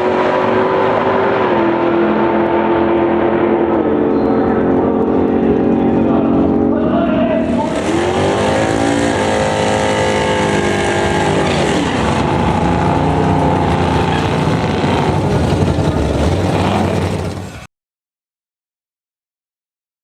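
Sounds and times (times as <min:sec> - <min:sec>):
car engine revving hard: 0:00.0 - 0:06.8, 0:07.4 - 0:17.7.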